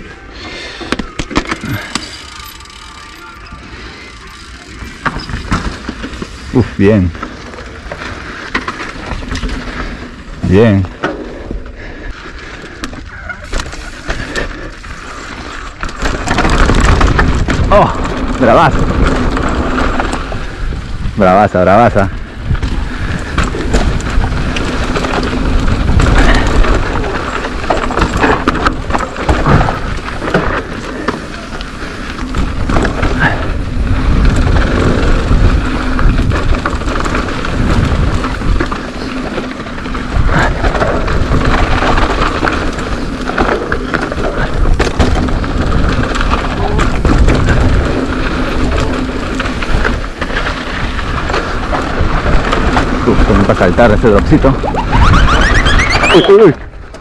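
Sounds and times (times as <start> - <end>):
wind and tyres on dirt: 0.0 - 57.0
bike knocking and rattling: 0.7 - 57.0.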